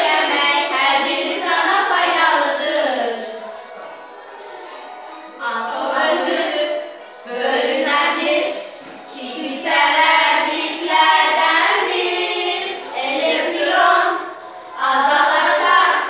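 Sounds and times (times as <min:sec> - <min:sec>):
girls singing together: 0:00.0 - 0:16.0.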